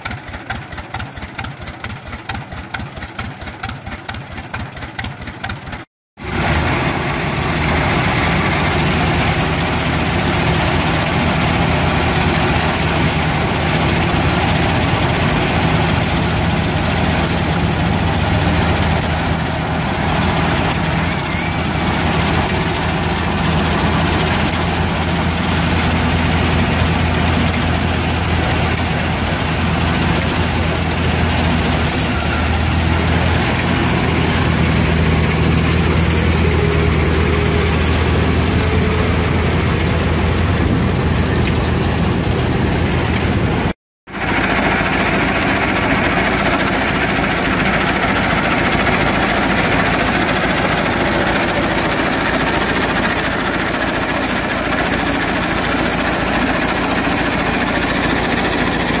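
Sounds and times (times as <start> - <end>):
tractor engine running: 0.0 - 59.0
vintage tractor engine running: 0.0 - 59.0.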